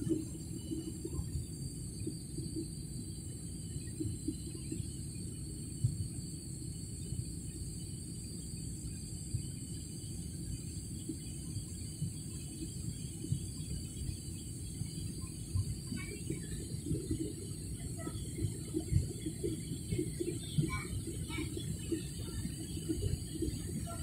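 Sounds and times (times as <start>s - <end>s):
thin high whine: 0.0s - 24.0s.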